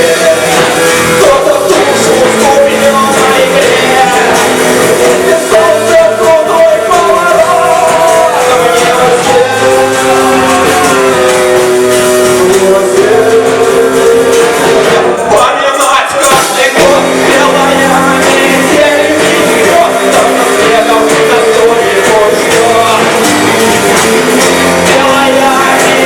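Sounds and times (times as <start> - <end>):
live pop-rock band music: 0.0 - 26.0.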